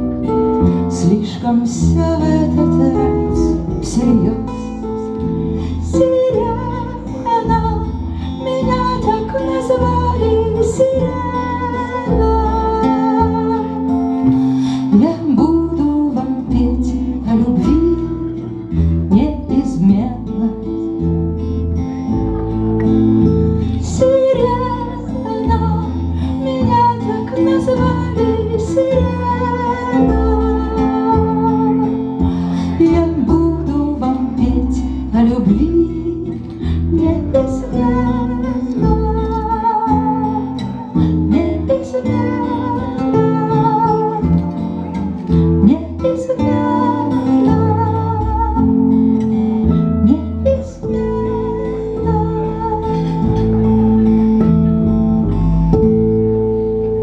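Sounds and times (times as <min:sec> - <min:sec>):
acoustic band playing: 0:00.0 - 0:57.0.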